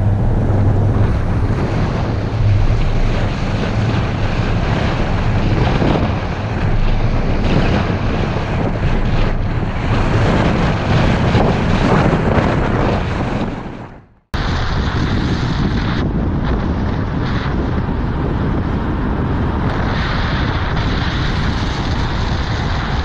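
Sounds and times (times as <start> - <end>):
car engine and tyre drone: 0.0 - 23.0
wind on microphone: 0.0 - 23.0.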